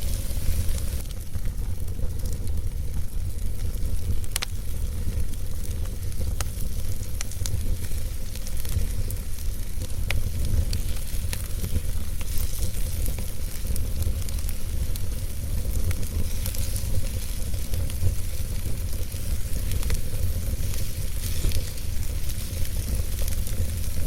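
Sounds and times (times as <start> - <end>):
fire flames rumbling and hissing: 0.0 - 24.0
logs crackling and popping: 0.0 - 24.0.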